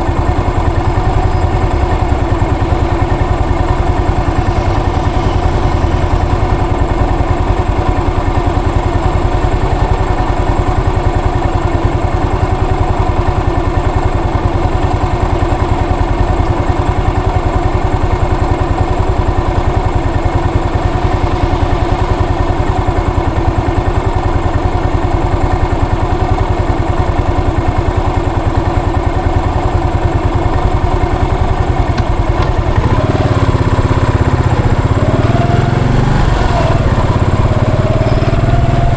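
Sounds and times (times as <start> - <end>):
motorcycle engine running at low revs: 0.0 - 38.9.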